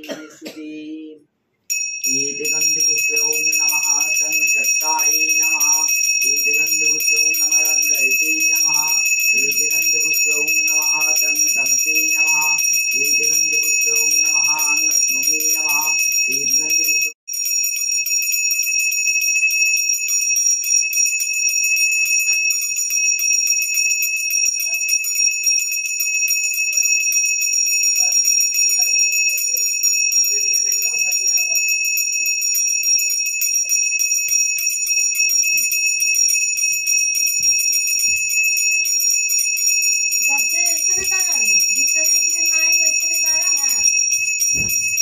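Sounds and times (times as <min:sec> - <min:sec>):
brass hand bell ringing: 0:01.7 - 0:45.0.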